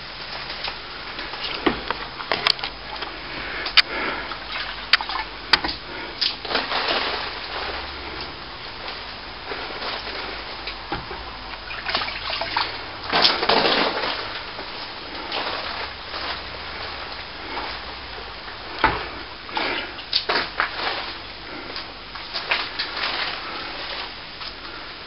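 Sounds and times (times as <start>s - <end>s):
water splashing from wet brush: 0.6s - 24.7s.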